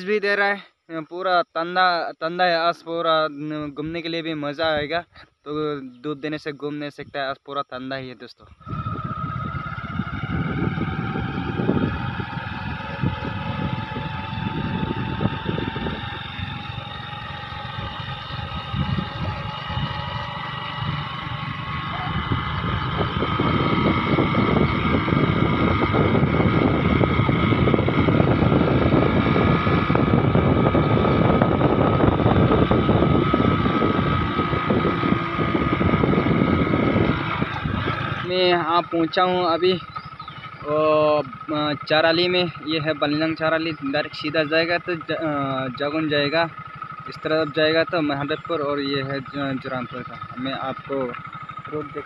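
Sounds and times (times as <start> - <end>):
vehicle engine whine: 8.4 - 52.0
wind and road noise: 8.4 - 52.0.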